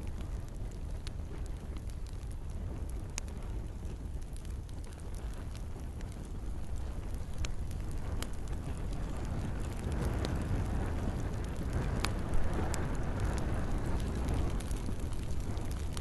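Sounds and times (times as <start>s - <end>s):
campfire crackling: 0.0s - 16.0s
gentle rain: 0.0s - 16.0s
sharp fire pops: 0.0s - 16.0s.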